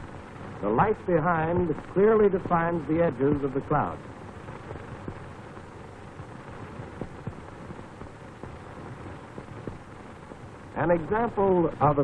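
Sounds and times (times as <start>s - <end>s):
crackles and clicks: 0.0s - 12.0s
faint steady hum: 0.0s - 12.0s
film soundtrack hiss: 0.0s - 12.0s.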